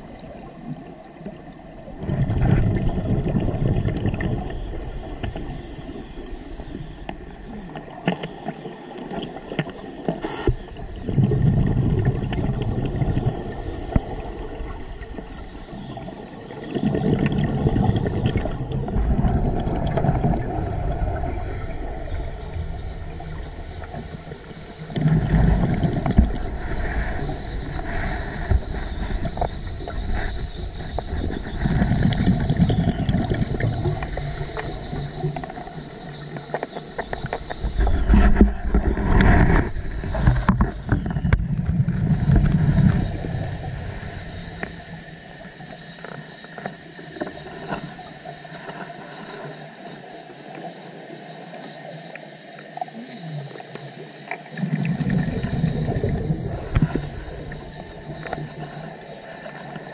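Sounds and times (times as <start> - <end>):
exhaled bubbles underwater: 0.0 - 59.9
underwater rush: 0.0 - 59.9.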